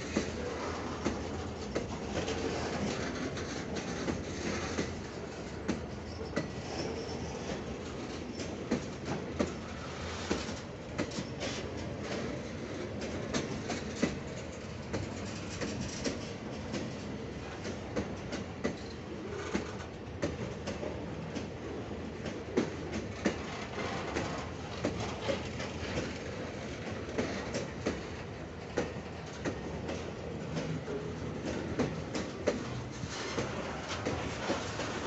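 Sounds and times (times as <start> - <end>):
steel wheels rumbling on rails: 0.0 - 35.0
train wheel clicks and knocks: 0.0 - 35.0.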